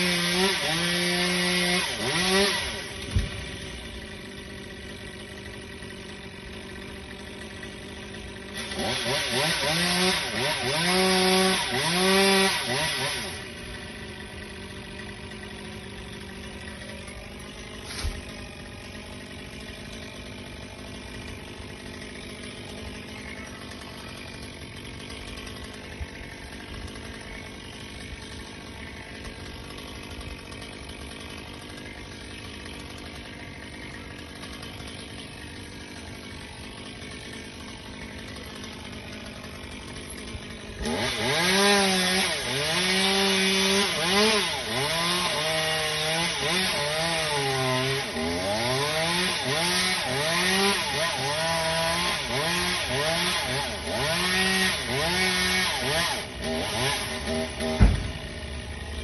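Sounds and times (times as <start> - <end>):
small engine idling: 0.0 - 44.0, 49.6 - 59.0
chainsaw cutting wood: 0.0 - 59.0.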